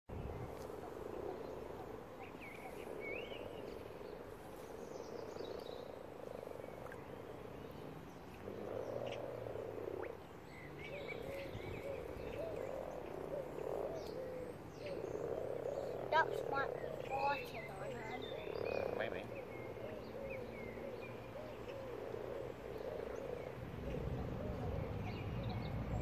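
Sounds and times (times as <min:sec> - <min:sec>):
chorus of frogs croaking: 0:00.1 - 0:26.0.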